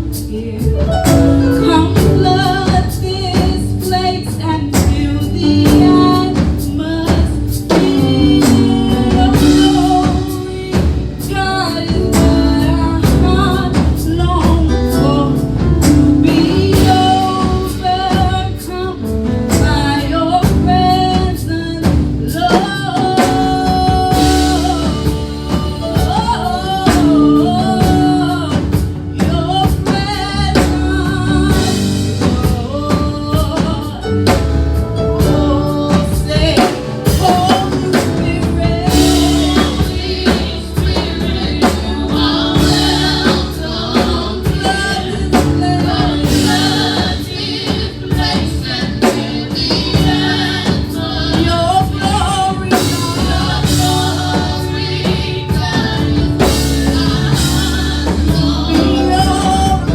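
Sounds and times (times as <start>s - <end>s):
live band playing: 0.0s - 59.9s
steady drum beat: 0.0s - 59.9s
voices singing gospel: 0.0s - 59.9s.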